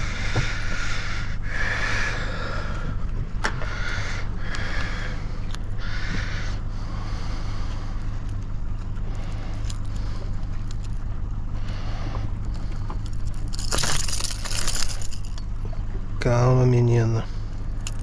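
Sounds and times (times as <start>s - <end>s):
boat engine humming: 0.0s - 18.0s
wind and water noise: 0.0s - 18.0s.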